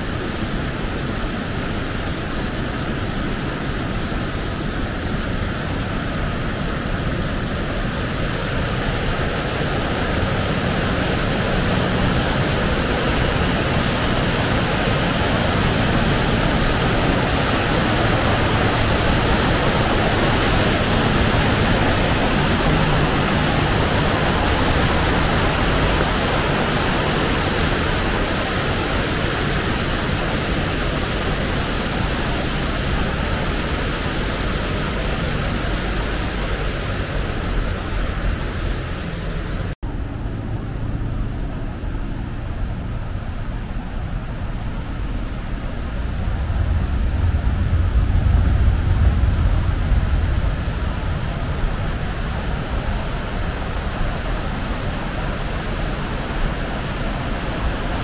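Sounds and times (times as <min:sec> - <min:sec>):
water rushing over rocks: 0:00.0 - 0:39.8, 0:42.7 - 0:58.0.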